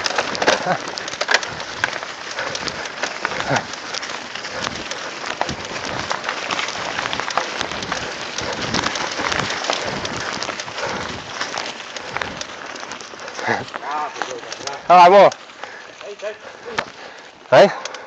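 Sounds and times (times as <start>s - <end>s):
bike rattling over bumps: 0.0s - 18.0s
tyres crackling on dry leaves: 0.0s - 18.0s.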